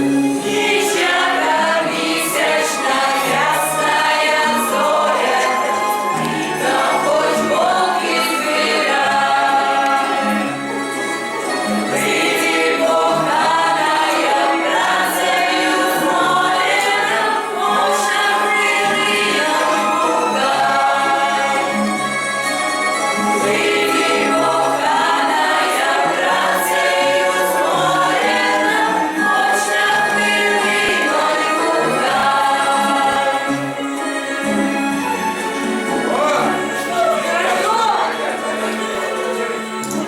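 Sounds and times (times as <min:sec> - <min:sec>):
group of voices singing: 0:00.0 - 0:40.0.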